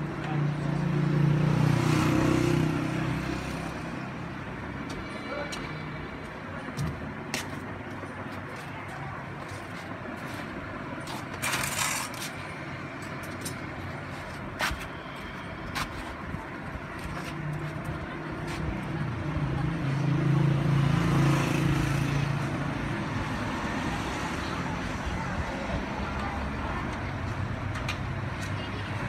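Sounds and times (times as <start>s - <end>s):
street and workshop background noise: 0.0s - 29.0s.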